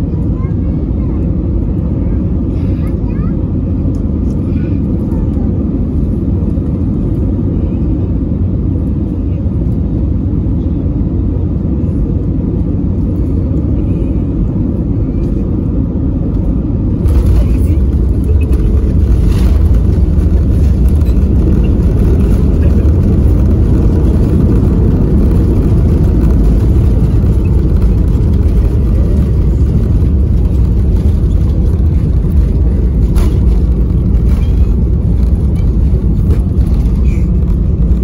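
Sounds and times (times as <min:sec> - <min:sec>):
airplane cabin rumble on runway: 0:00.0 - 0:38.0.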